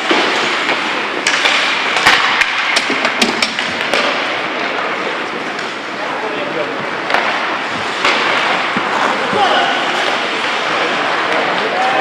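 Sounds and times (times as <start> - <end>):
sticks and puck clacking: 0.0 - 6.2, 6.8 - 12.0
skates scraping on ice: 0.0 - 12.0.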